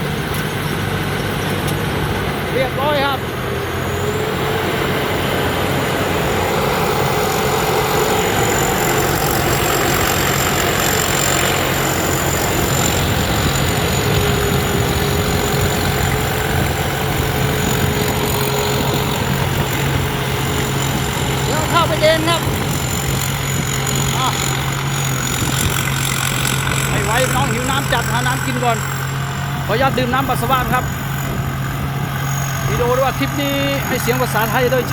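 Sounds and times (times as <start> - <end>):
harvester engine and threshing machinery: 0.0 - 34.9
high-pitched whine: 0.0 - 34.9.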